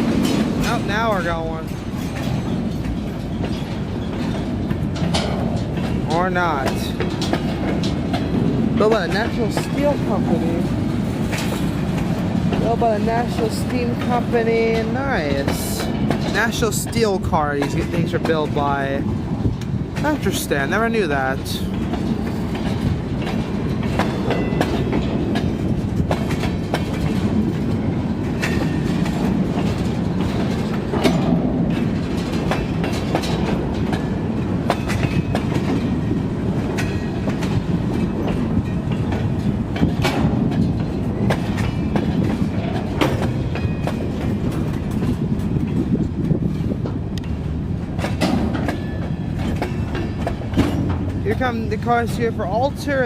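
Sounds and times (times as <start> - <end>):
clacks and knocks: 0.0 - 53.0
steel wheels rumbling on rail: 0.0 - 53.0.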